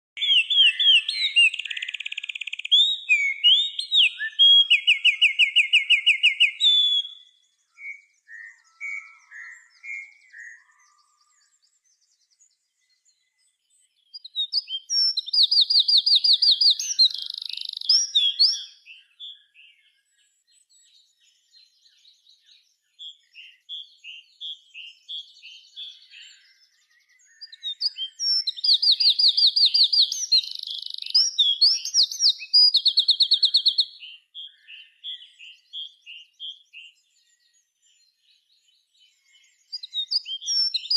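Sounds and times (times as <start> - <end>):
songbird trilling and chirping: 0.2 - 40.9.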